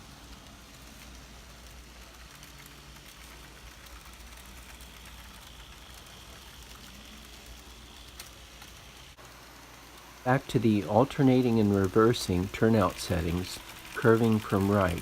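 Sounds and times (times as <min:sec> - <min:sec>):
small motors whirring: 0:00.0 - 0:15.0
wheels ticking over rails: 0:00.0 - 0:15.0.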